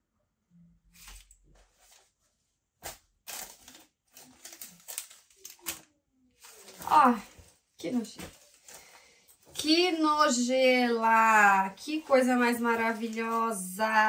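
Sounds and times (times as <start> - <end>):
paper and clothes crinkling: 1.0 - 14.0.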